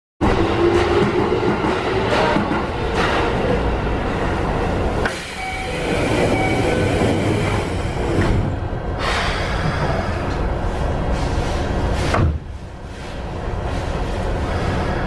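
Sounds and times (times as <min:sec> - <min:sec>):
train wheels rumbling on rails: 0:00.2 - 0:15.0.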